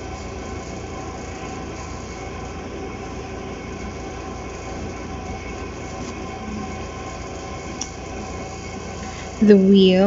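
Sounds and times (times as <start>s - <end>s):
low machine rumble with hiss: 0.0s - 10.0s.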